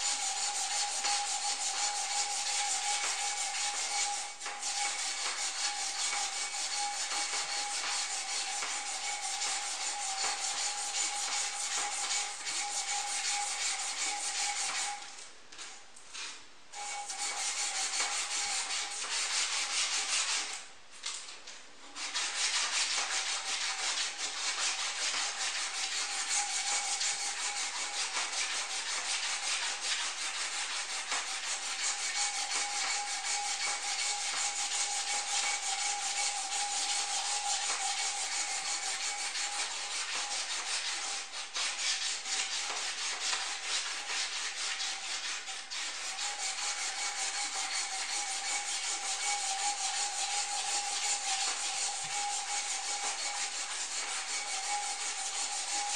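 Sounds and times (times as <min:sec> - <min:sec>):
metal rod being rubbed: 0:00.0 - 0:15.1, 0:16.1 - 0:20.7, 0:21.9 - 0:55.9.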